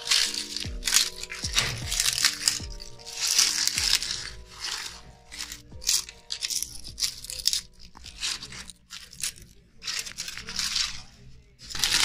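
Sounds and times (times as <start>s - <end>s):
background music: 0.0s - 12.0s
dry leaves crunching: 0.0s - 12.0s.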